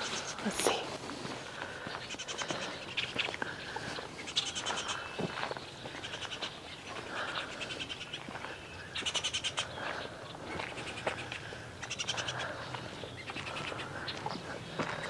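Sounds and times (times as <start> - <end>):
songbirds singing and calling: 0.0 - 15.0.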